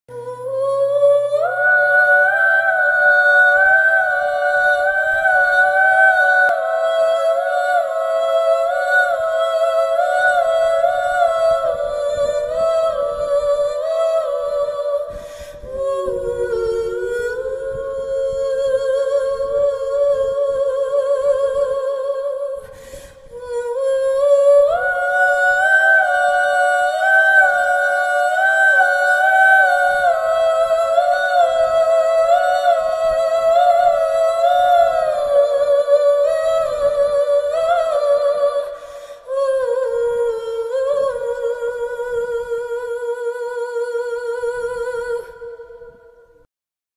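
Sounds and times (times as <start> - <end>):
person humming melody: 0.1 - 42.1.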